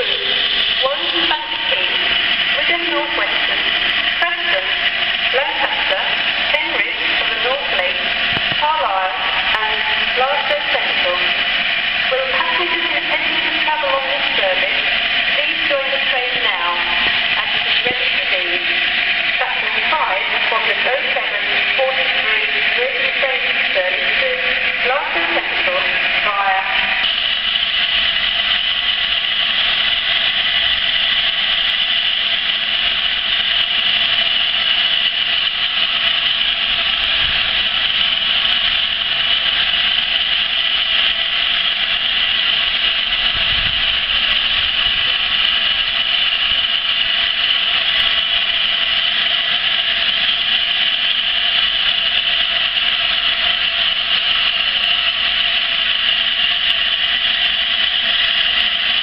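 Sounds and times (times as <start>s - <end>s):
steam locomotive blowing off steam: 0.0s - 59.0s.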